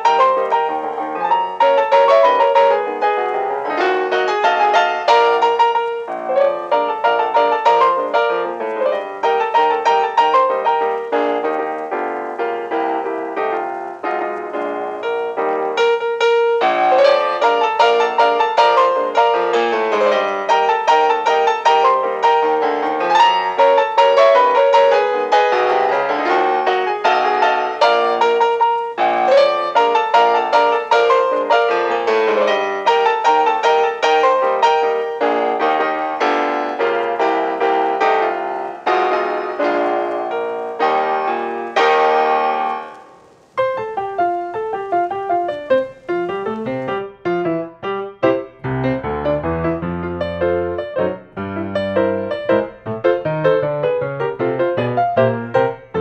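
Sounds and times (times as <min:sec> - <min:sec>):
solo ragtime piano: 0:00.0 - 0:56.0.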